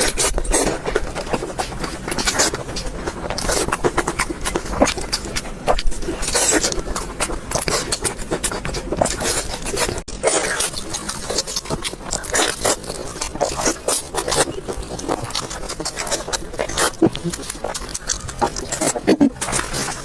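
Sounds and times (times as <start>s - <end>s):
chewing and mouth clicks: 0.0s - 20.0s.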